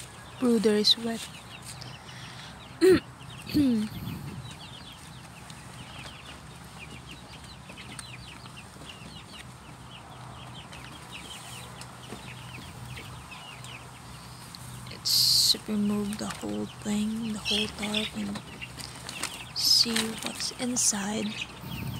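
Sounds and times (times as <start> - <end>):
chicks peeping: 0.0 - 21.9.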